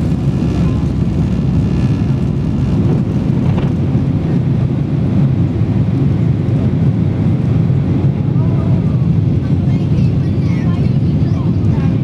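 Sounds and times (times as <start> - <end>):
jet engines deep rumble: 0.0 - 12.0.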